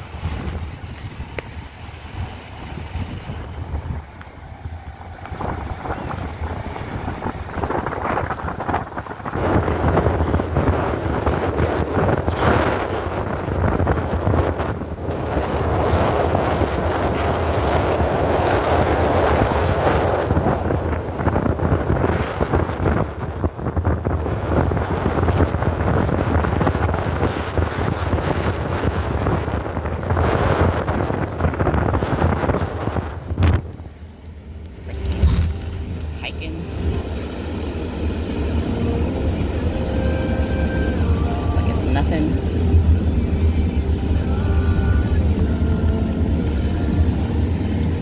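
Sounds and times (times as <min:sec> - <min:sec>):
tyre rumble and road noise: 0:00.0 - 0:48.0.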